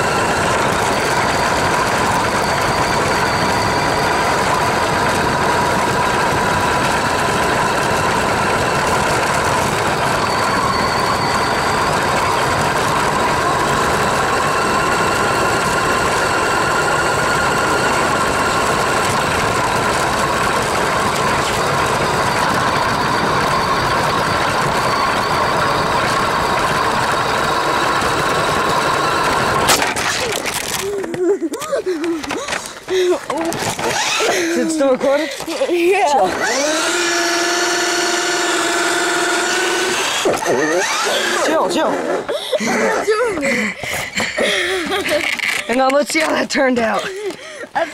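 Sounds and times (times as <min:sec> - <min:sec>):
electric motor and gears whining: 0:00.0 - 0:47.9
running noise: 0:00.0 - 0:47.9.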